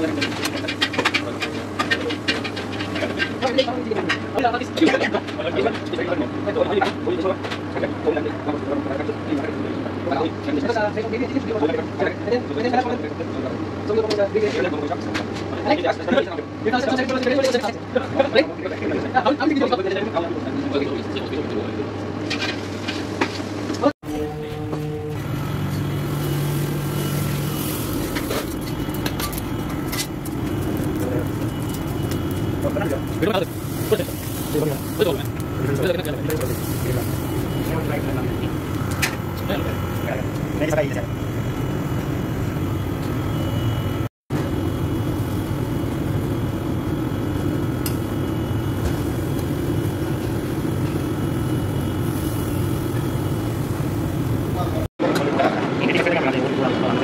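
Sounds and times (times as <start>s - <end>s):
kitchen machinery hum: 0.0s - 57.0s.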